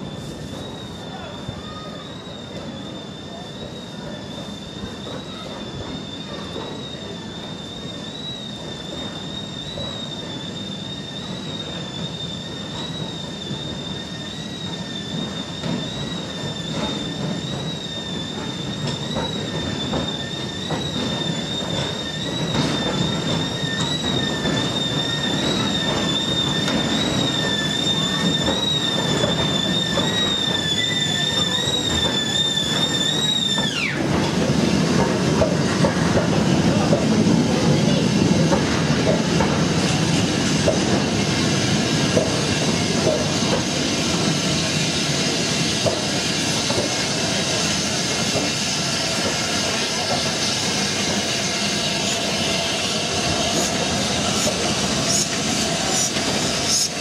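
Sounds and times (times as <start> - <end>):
low train rumble: 0.0 - 57.0
train wheels squealing: 0.0 - 57.0.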